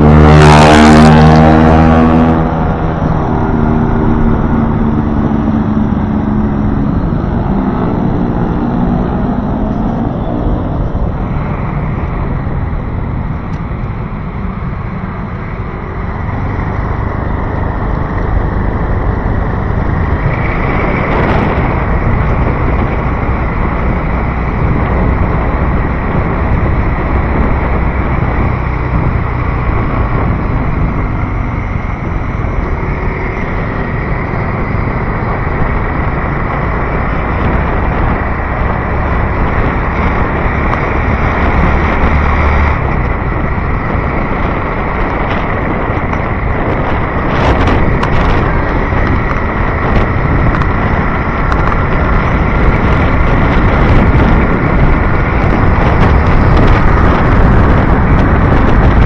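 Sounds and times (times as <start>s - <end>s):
loud traffic noise: 0.0s - 59.0s
wind buffeting microphone: 0.0s - 59.0s.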